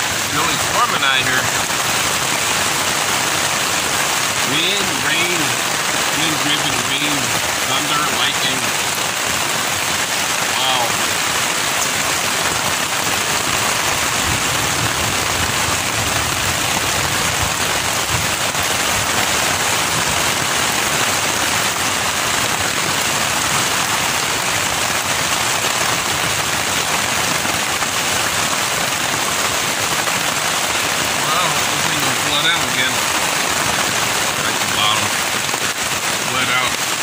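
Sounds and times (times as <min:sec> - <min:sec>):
rain on tent fabric: 0:00.0 - 0:37.0.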